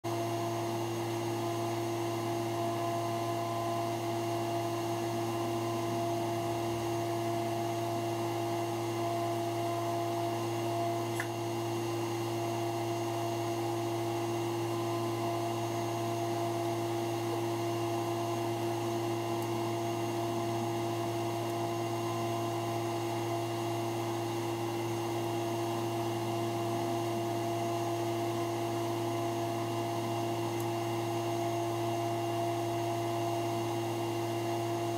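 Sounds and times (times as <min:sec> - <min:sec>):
machine hum: 0:00.1 - 0:34.9.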